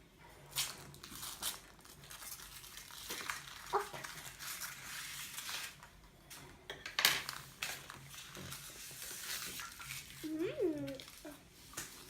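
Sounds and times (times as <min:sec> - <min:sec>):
wrapper rustling: 0:00.5 - 0:06.0, 0:07.2 - 0:12.0.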